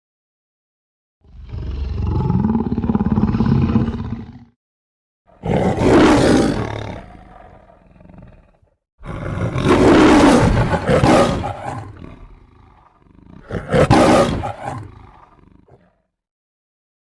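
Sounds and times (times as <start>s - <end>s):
creature roars: 1.2s - 4.6s, 5.3s - 16.1s.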